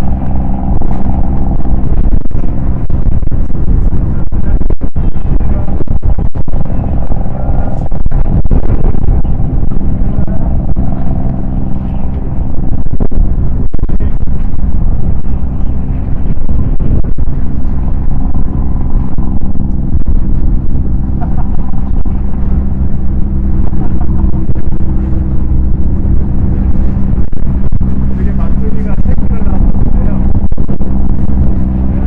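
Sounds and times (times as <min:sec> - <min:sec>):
gusting wind buffeting microphone: 0:00.0 - 0:32.0.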